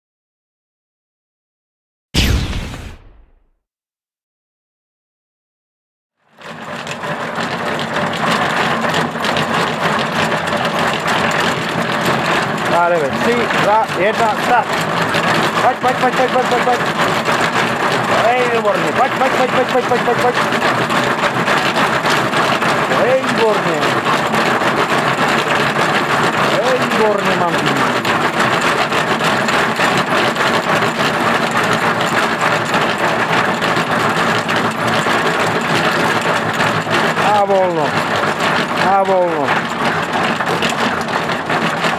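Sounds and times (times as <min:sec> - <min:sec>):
dog paws striking treadmill belt: 0:06.4 - 0:41.9
treadmill hum and rattle: 0:06.4 - 0:41.9.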